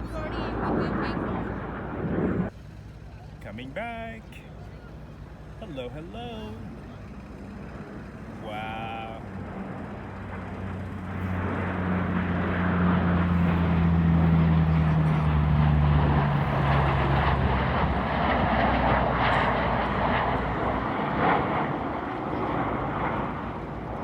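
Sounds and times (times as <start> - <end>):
broad rushing noise: 0.0 - 2.6, 5.6 - 24.0
airplane engines passing: 0.0 - 24.0.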